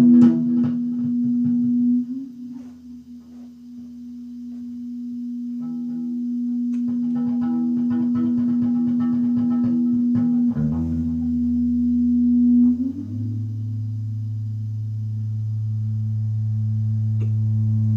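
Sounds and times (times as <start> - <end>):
electric guitar feedback tone: 0.0 - 17.9
electric guitar notes: 0.0 - 17.9.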